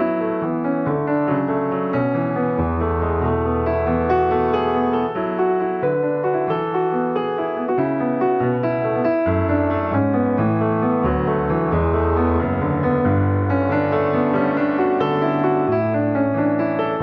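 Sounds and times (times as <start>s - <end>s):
calm piano music: 0.0s - 17.0s.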